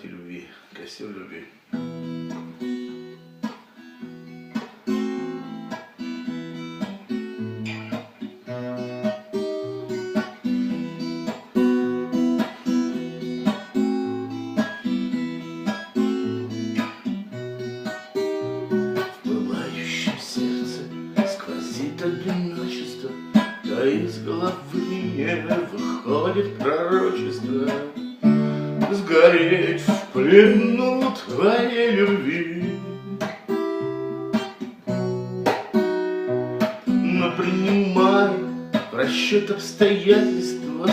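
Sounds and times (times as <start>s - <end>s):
acoustic guitar strumming chords: 1.5s - 40.9s.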